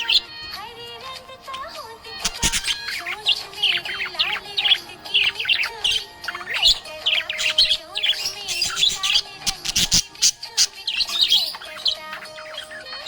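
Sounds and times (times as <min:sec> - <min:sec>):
budgerigar chirping and warbling: 0:00.0 - 0:00.4, 0:01.4 - 0:13.0.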